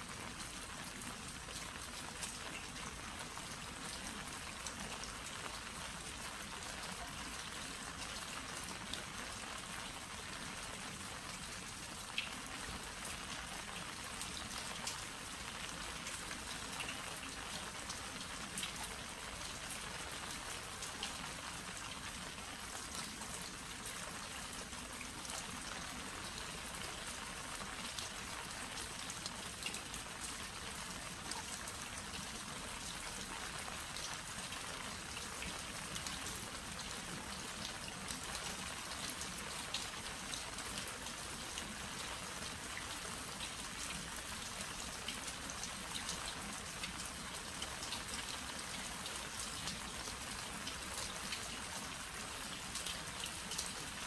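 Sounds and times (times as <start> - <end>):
rain falling on pottery crocks: 0.0 - 54.0.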